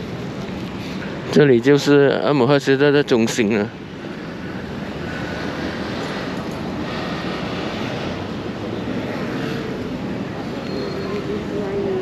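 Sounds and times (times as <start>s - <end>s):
passing traffic roar: 0.0s - 12.0s.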